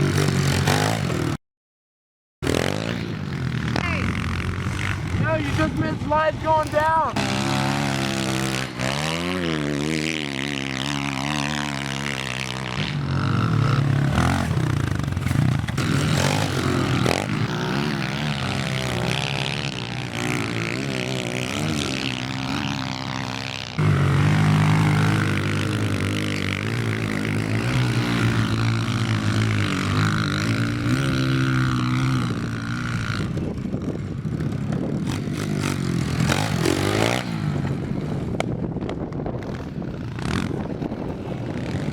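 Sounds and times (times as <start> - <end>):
pit bike engines revving: 0.0 - 1.4, 2.4 - 41.9.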